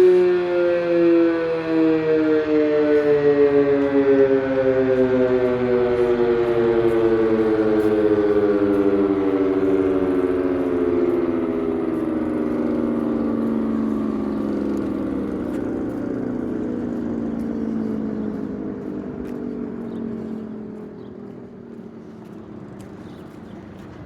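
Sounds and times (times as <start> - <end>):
warning siren winding down: 0.0 - 22.8.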